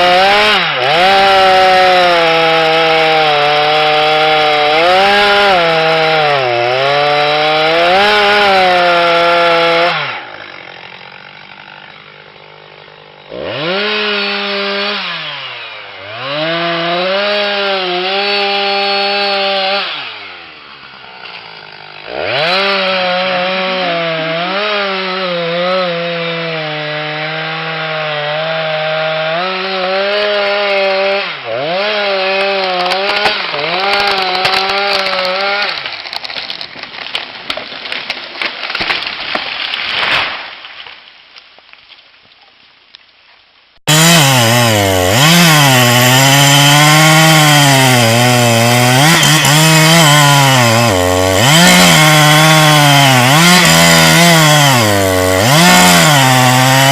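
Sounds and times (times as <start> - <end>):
chainsaw cutting wood: 0.0 - 41.0, 43.8 - 56.9.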